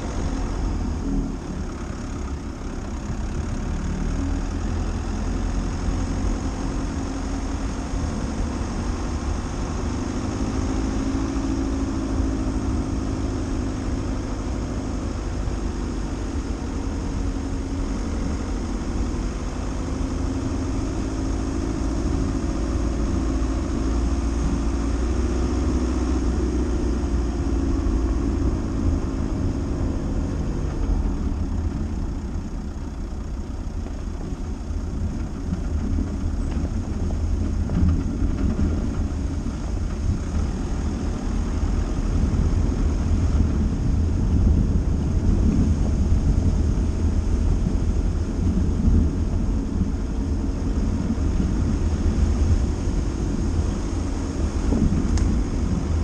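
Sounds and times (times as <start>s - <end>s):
car engine drone: 0.0s - 56.0s
low rumble from rough track: 0.0s - 56.0s.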